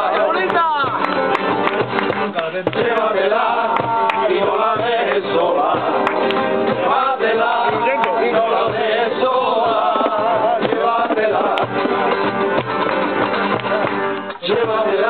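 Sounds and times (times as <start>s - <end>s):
men singing together: 0.0s - 1.0s, 2.1s - 12.4s, 13.7s - 15.0s
strummed acoustic guitars: 0.0s - 15.0s.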